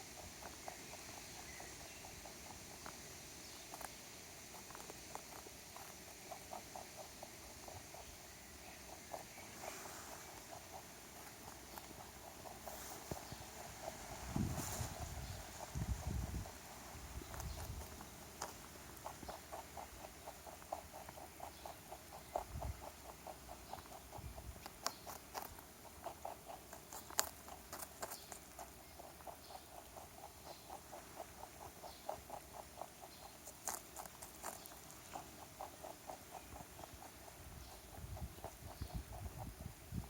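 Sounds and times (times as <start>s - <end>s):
rabbit chewing carrot: 0.0s - 40.0s.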